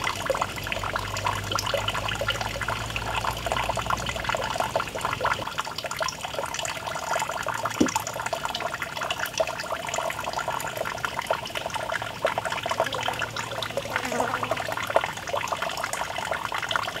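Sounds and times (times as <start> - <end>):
water trickling into pool: 0.0 - 17.0.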